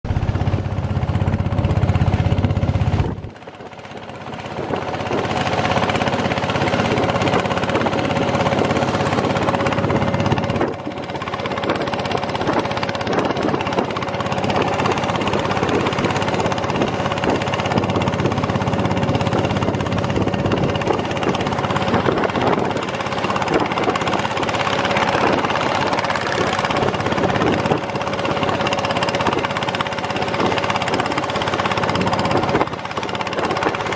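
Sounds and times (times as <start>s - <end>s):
boat engine pounding: 0.0s - 33.9s.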